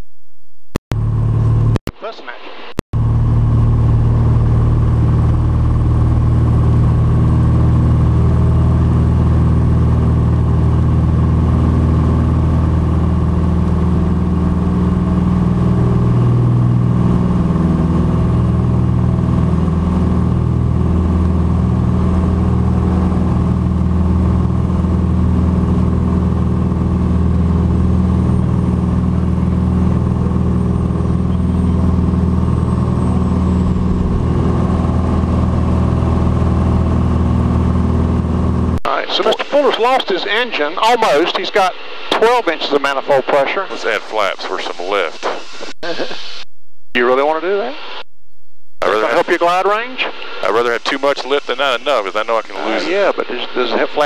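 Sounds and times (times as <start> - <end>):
propeller plane engine droning: 1.0 - 1.8, 3.0 - 46.4, 48.8 - 54.0.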